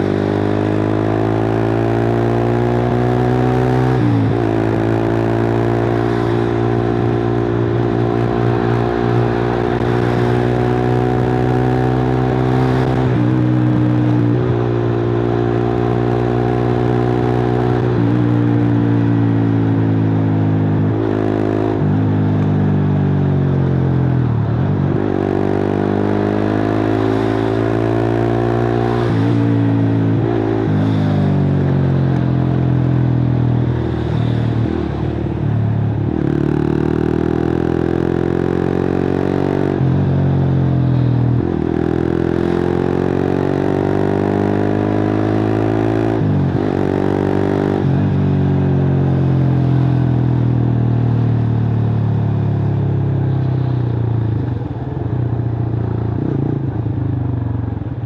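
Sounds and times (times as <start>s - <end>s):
motorcycle engine revving: 0.0s - 51.7s, 52.3s - 58.0s.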